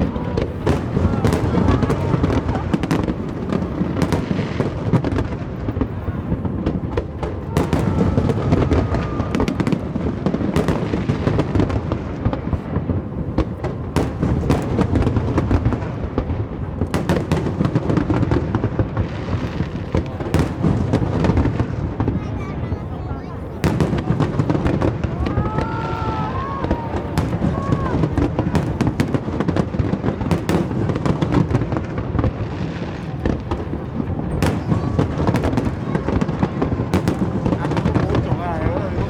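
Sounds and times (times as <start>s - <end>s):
fireworks booms and rumbling: 0.0s - 39.0s.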